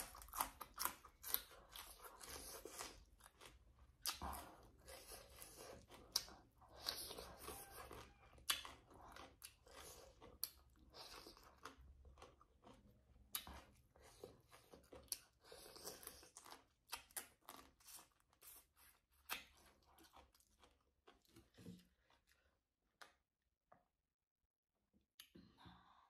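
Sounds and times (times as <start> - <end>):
chewing and crunching food: 0.0 - 23.2.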